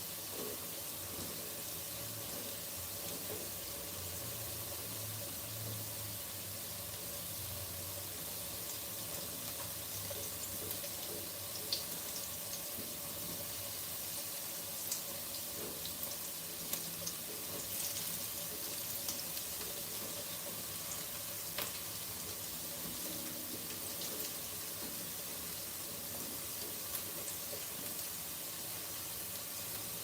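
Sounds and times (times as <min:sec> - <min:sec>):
carrots sizzling in oil: 0:00.0 - 0:30.0.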